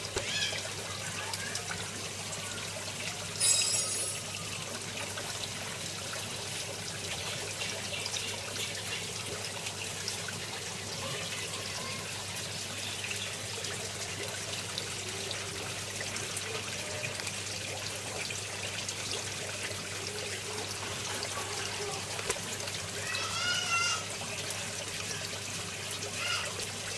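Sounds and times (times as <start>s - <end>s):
water trickling and splashing: 0.0s - 26.9s.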